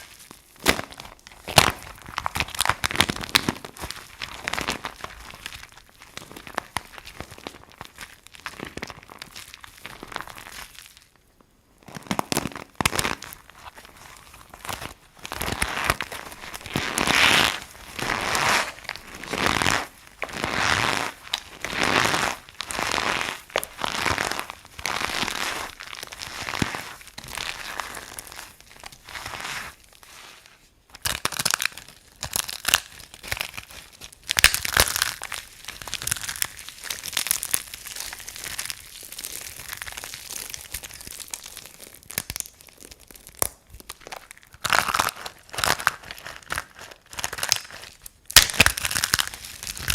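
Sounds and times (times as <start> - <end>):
bar soap being crunched: 0.0 - 11.2, 11.8 - 49.9.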